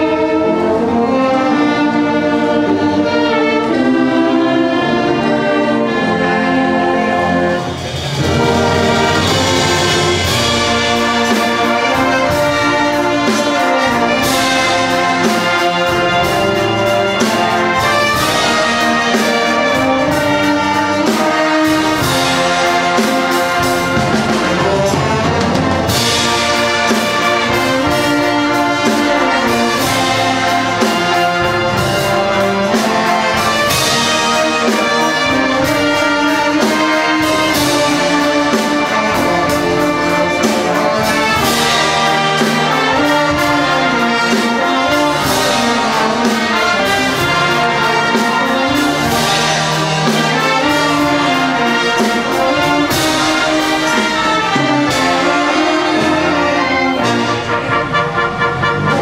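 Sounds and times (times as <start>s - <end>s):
concert band playing: 0.0s - 59.0s.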